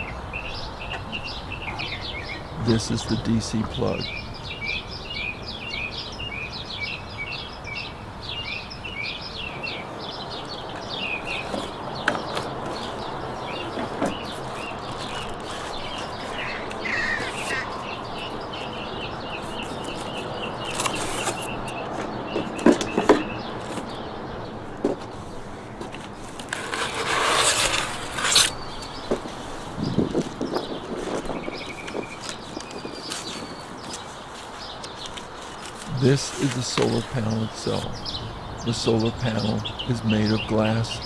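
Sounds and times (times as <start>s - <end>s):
background noise: 0.0s - 41.0s
small birds chirping: 0.0s - 41.0s.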